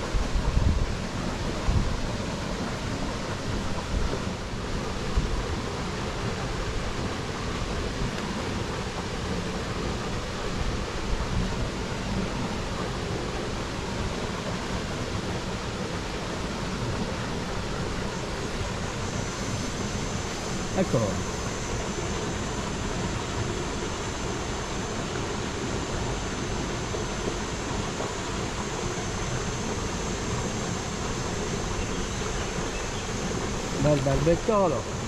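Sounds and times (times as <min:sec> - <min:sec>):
shallow river flowing: 0:00.0 - 0:35.0.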